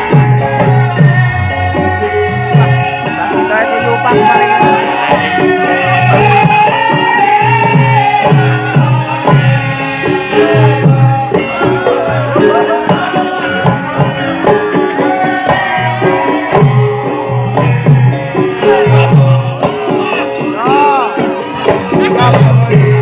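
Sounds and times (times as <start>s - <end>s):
gamelan melodic lines: 0.0s - 23.0s.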